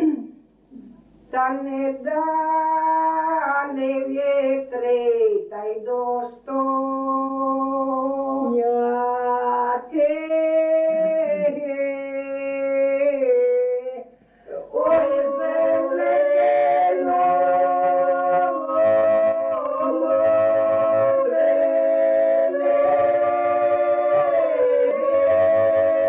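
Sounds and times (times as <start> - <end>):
folk singers singing unaccompanied: 0.1 - 26.0.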